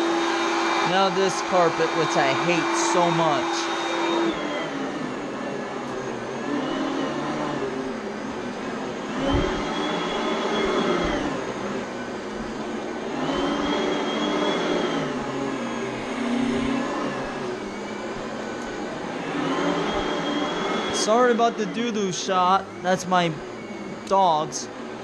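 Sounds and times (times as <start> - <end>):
vacuum cleaner whining on carpet: 0.0 - 25.0.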